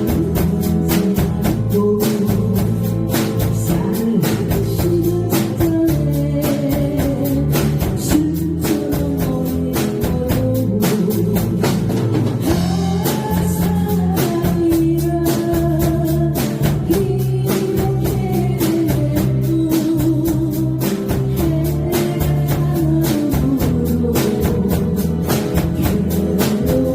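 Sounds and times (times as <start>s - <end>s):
band playing: 0.0s - 26.9s
drum kit beat with cymbals: 0.0s - 26.9s.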